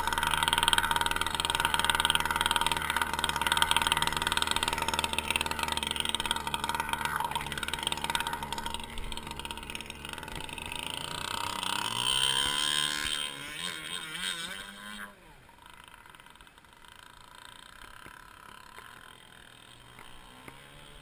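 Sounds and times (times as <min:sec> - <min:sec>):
model boat engine running: 0:00.0 - 0:21.0.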